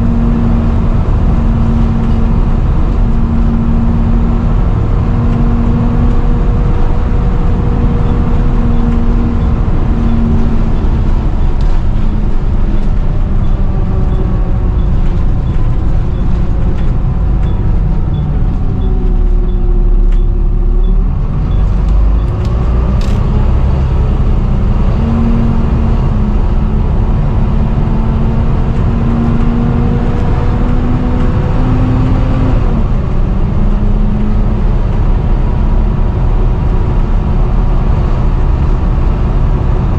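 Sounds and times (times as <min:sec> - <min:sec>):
bus engine whining: 0:00.0 - 0:39.9.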